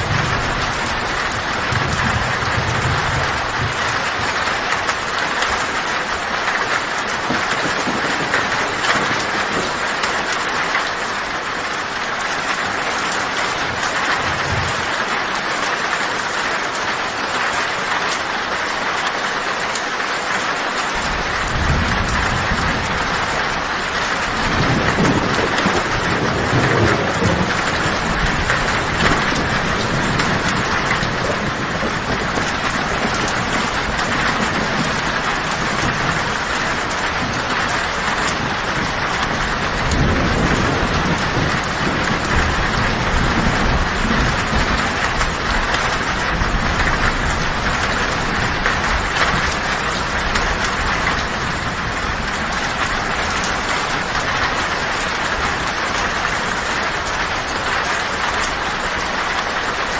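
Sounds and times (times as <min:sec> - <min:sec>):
low thunder rumbling: 0:00.0 - 0:15.1, 0:20.9 - 0:59.6
heavy rain on a tin roof: 0:00.0 - 0:59.9.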